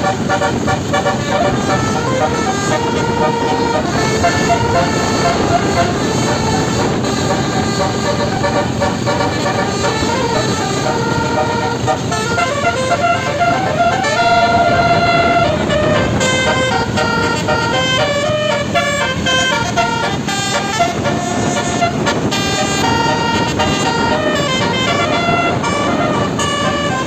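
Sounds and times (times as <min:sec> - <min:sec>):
bus horn playing a tune: 0:00.0 - 0:27.0.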